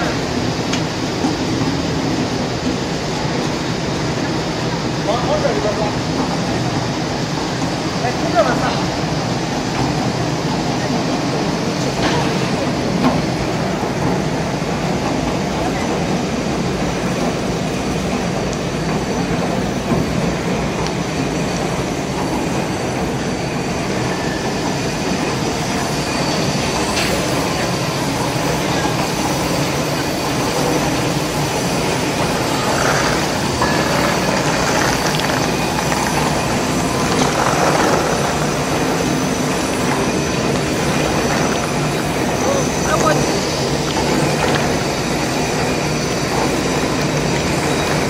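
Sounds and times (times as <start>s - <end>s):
popcorn machine rumble and air rush: 0.0s - 48.0s.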